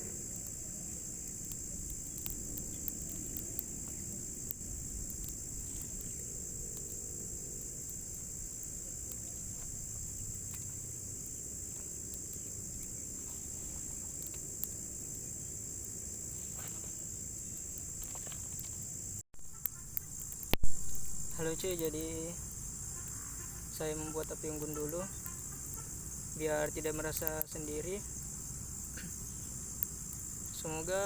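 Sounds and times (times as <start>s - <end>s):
crickets and insects chirping: 0.0s - 31.0s.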